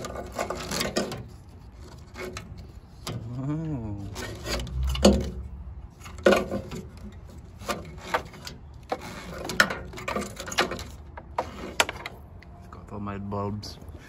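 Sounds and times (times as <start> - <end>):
hands rubbing wiring: 0.0 - 12.5.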